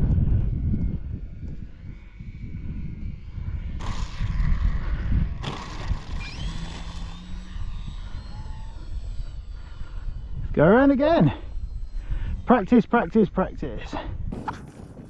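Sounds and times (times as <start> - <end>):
electric motor whining: 0.0 - 15.0
wind buffeting microphone: 0.0 - 15.0.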